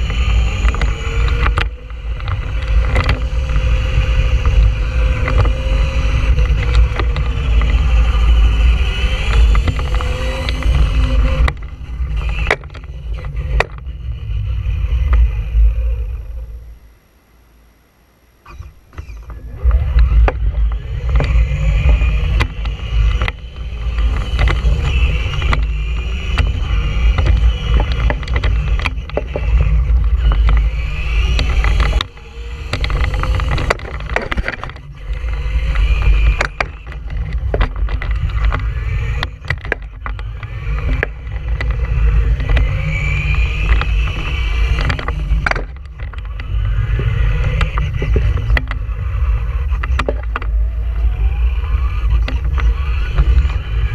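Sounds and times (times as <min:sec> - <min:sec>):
small clicks and knocks: 0:00.0 - 0:14.0, 0:18.4 - 0:53.9
toy car motor whining: 0:00.0 - 0:17.0, 0:18.2 - 0:53.9
low rumble of tyres: 0:00.0 - 0:53.9.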